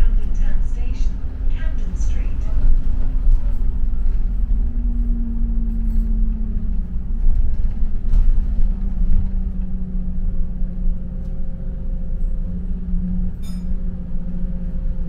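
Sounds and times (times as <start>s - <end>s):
bus engine and road rumble: 0.0s - 15.0s
humming drive tone: 0.0s - 15.0s.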